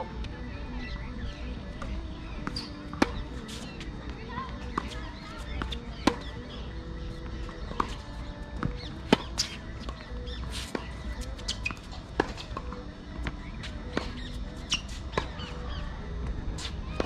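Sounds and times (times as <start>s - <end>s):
birds chirping: 0.5s - 16.0s
tennis ball bouncing on court: 1.8s - 15.6s.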